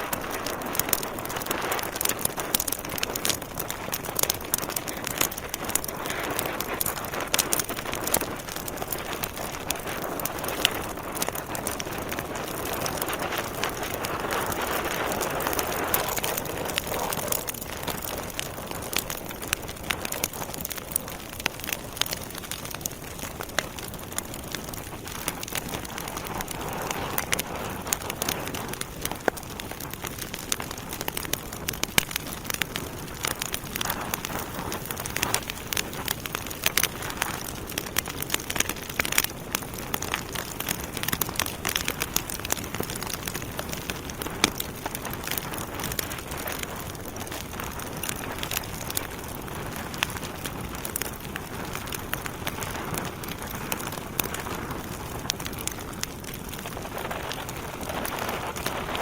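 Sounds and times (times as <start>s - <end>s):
logs burning with crackles and pops: 0.0s - 59.0s.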